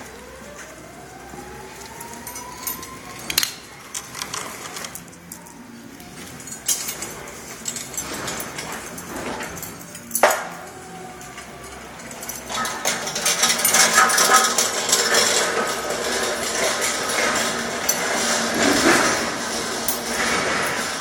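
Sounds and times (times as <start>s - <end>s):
metal clinking and scraping: 1.8s - 21.0s.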